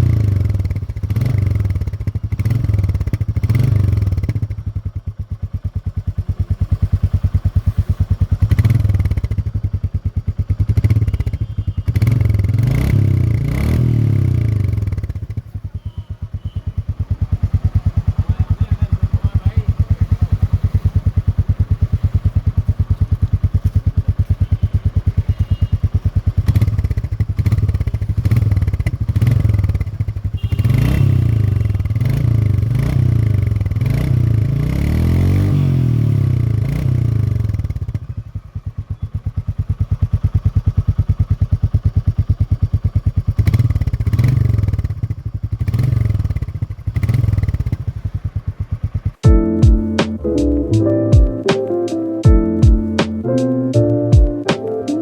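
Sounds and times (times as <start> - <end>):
motorcycle engine idling and revving: 0.0 - 51.4, 52.2 - 54.5.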